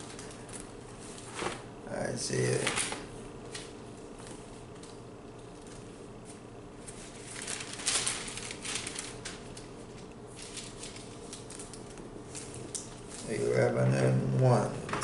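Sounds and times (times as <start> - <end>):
thin pages rustling: 0.0 - 1.7, 2.5 - 13.4
faint steady hum: 0.0 - 15.0.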